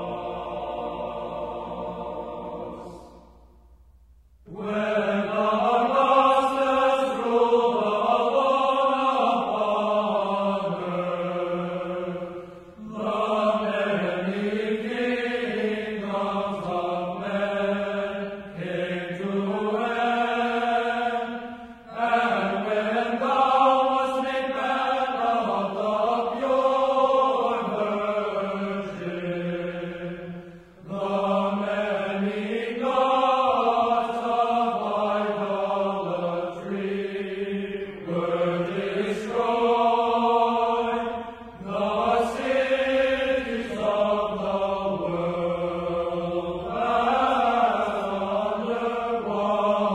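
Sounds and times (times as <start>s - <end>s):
slow vocal chant: 0.0s - 3.8s, 4.4s - 49.9s.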